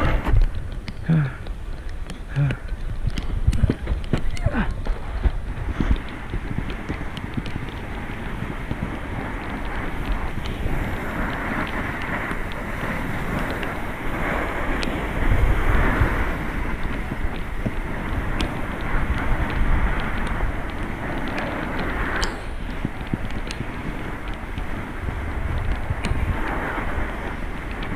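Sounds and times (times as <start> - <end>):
skis sliding over snow: 0.0 - 27.9
wind buffeting microphone: 0.0 - 27.9
sharp ticks: 0.3 - 27.9.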